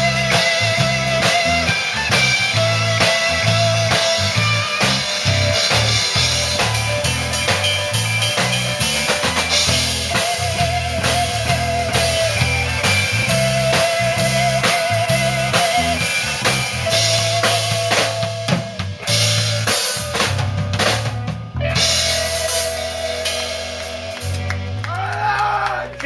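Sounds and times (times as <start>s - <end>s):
sliding guitar notes: 0.0s - 25.0s
bass guitar: 0.0s - 26.0s
drum kit beat: 0.0s - 26.0s
electric guitars: 0.0s - 26.0s.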